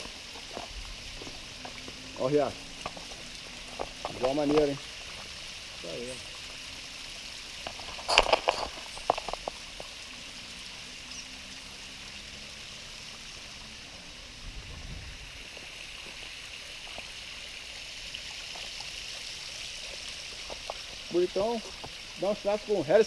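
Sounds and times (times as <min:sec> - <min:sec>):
stream running over rocks: 0:00.0 - 0:23.0.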